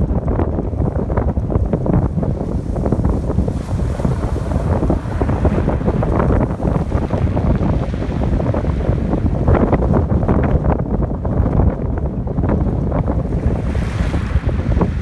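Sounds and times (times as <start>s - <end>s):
wind buffeting microphone: 0.0s - 15.0s
ocean waves breaking: 0.1s - 10.6s, 12.6s - 15.0s.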